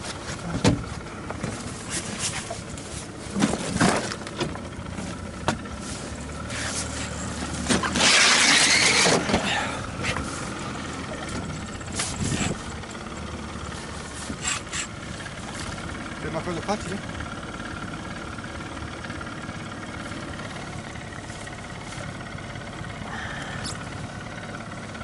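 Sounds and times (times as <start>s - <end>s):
boat motor idling: 0.0s - 25.0s.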